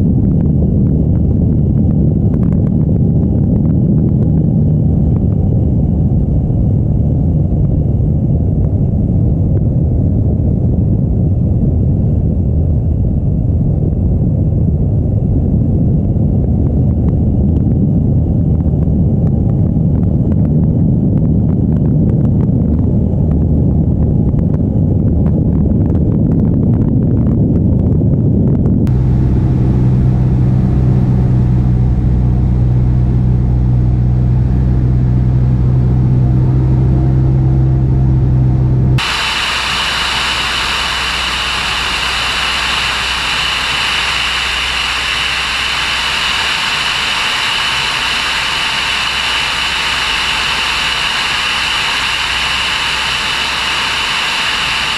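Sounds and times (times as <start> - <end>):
steady high whine: 0.0 - 25.4, 26.9 - 54.9
wind rush: 0.0 - 36.4, 38.7 - 54.9
light aircraft engine drone: 0.0 - 54.9.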